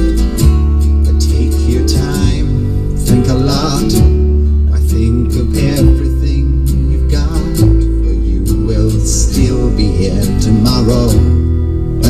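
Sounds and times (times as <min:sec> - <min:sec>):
heavy subwoofer bass notes: 0:00.0 - 0:12.0
music on car stereo: 0:00.0 - 0:12.0.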